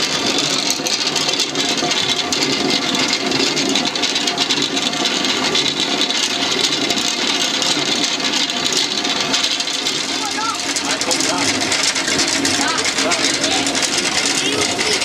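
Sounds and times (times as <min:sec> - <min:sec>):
millstones grinding grain: 0:00.0 - 0:15.0.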